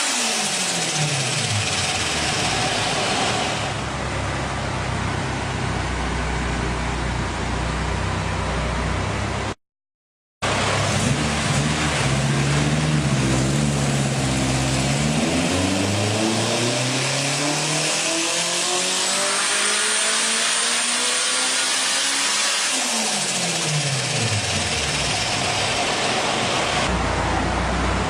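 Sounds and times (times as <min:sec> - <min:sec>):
turbocharged car engine revving: 0:00.0 - 0:05.2, 0:10.4 - 0:28.0.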